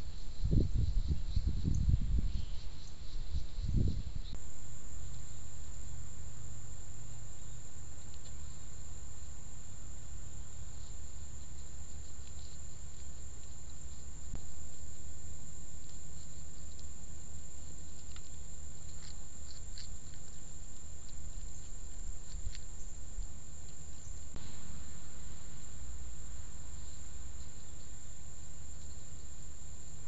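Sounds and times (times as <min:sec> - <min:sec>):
high insect drone: 0:00.0 - 0:30.0
steady low hum: 0:00.0 - 0:30.0.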